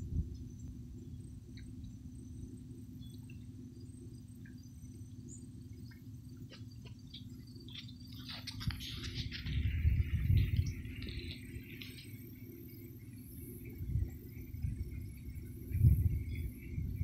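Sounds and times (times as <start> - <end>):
faint chirps and ticks: 0.0 - 17.0
low steady rumble: 0.0 - 17.0.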